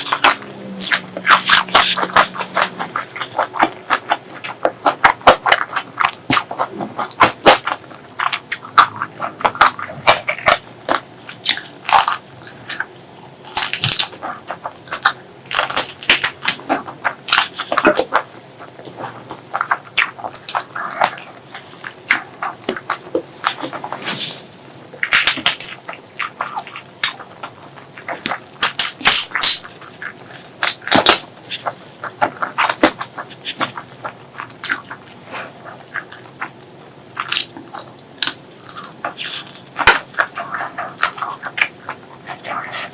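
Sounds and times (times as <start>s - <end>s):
wet chewing and mouth smacks: 0.0s - 24.0s, 25.0s - 36.6s, 37.2s - 42.9s.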